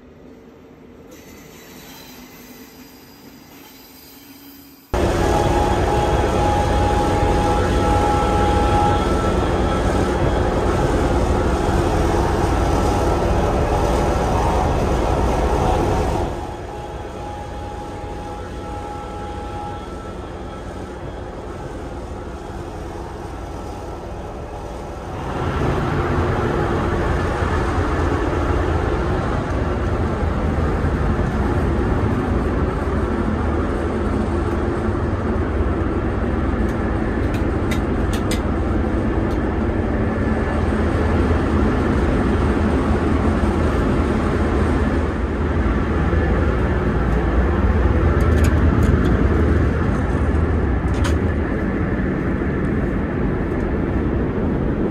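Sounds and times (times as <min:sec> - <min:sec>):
train running with rumble: 0:00.0 - 0:54.9.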